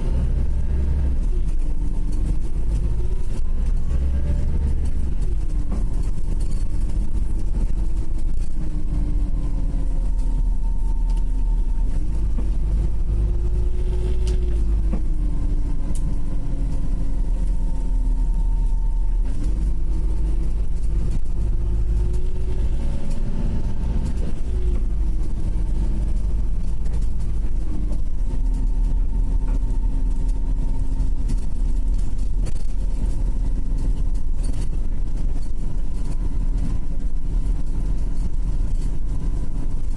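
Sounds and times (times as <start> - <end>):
bus drivetrain rumble: 0.0 - 39.9.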